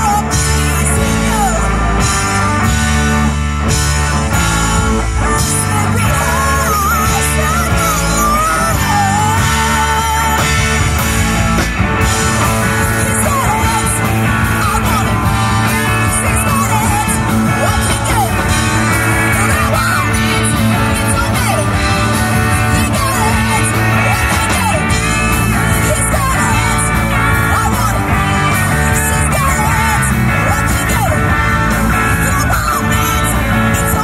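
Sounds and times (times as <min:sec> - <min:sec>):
drum kit: 0:00.0 - 0:34.0
electric guitars: 0:00.0 - 0:34.0
woman singing lead: 0:04.1 - 0:11.2, 0:12.0 - 0:34.0.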